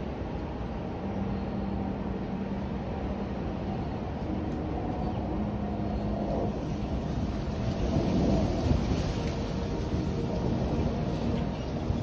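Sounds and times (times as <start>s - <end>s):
gusty wind on microphone: 0.0s - 12.0s
higher hum: 0.0s - 12.0s
low mechanical hum: 0.0s - 12.0s.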